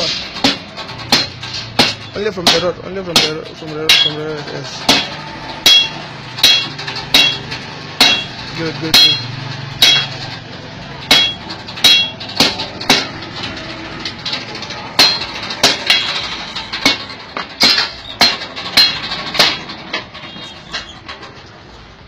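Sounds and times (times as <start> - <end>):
hammer striking hot metal: 0.0 - 20.1.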